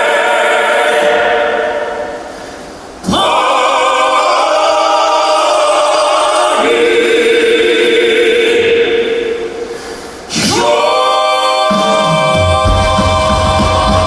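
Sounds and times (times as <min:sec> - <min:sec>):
male vocal quartet singing harmony: 0:00.0 - 0:14.0.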